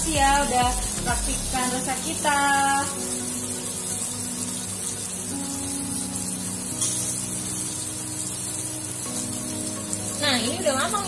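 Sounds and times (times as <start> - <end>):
background music of held chords: 0.0 - 11.0
chicken wings sizzling in grill pan: 0.0 - 11.0.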